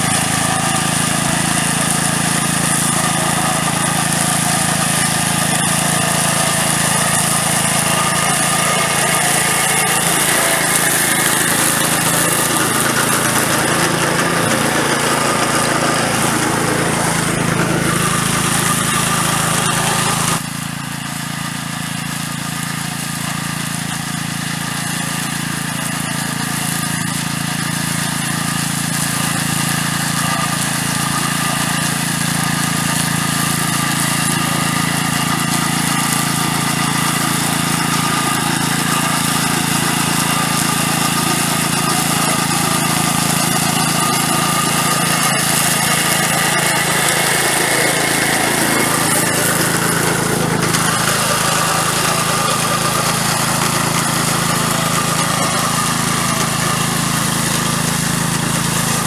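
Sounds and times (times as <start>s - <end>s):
drum mower cutting grass: 0.0s - 59.0s
small petrol engine under load: 0.0s - 59.0s.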